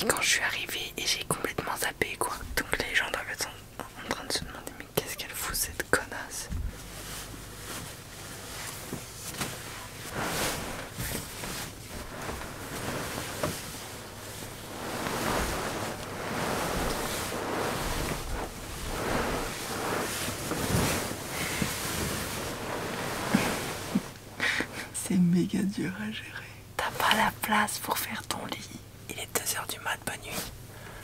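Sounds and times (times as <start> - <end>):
bed sheets and duvet rustling: 0.0 - 25.0.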